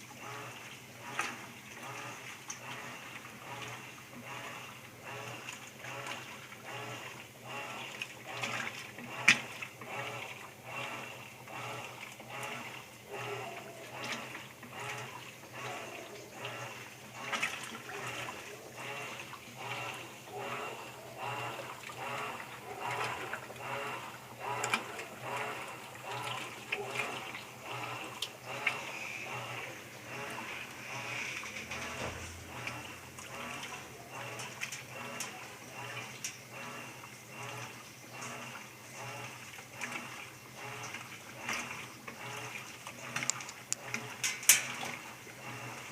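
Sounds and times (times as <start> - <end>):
motor hum: 0.0 - 45.9
washing machine water churning: 0.0 - 45.9.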